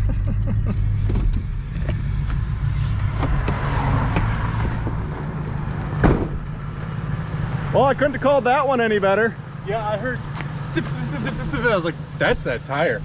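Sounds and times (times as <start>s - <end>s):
road noise: 0.0s - 13.0s
vehicle engine humming: 0.0s - 13.0s.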